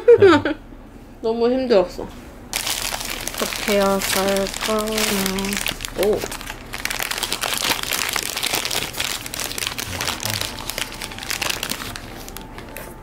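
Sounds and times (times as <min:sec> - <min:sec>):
paper wrapper crinkling: 0:02.5 - 0:13.0.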